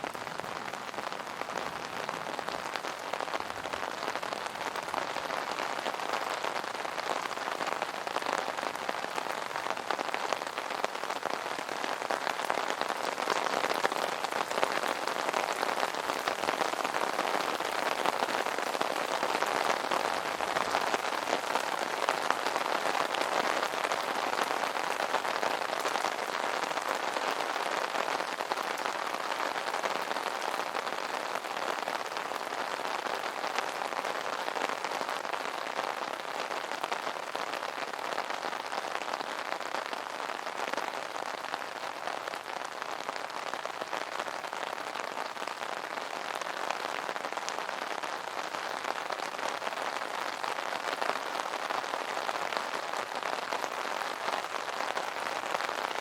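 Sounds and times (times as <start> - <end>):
rain drumming on an umbrella: 0.0 - 56.0.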